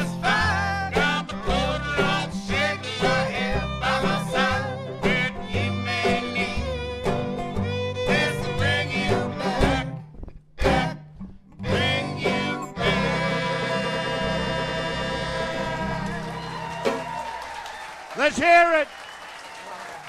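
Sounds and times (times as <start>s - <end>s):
string band playing live: 0.0s - 17.2s.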